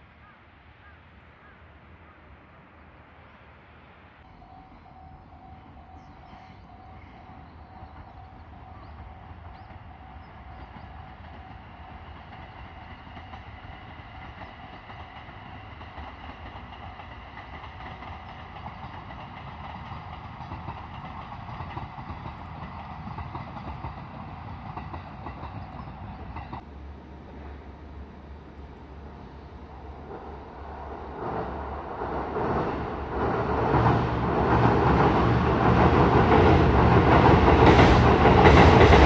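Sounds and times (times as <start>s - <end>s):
diesel train running: 3.4s - 39.0s.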